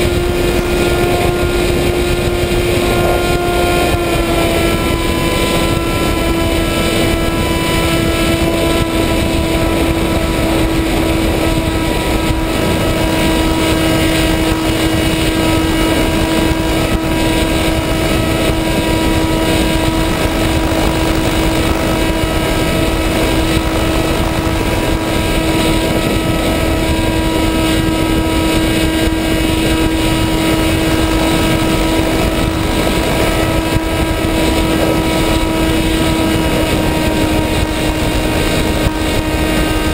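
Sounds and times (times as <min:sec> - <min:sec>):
model aircraft motor and propeller: 0:00.0 - 0:39.9
wind over microphone: 0:00.0 - 0:39.9.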